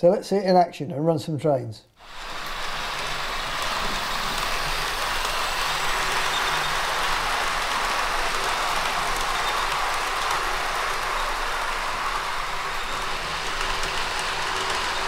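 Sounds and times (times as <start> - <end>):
model train wheels rumbling: 2.0 - 15.0.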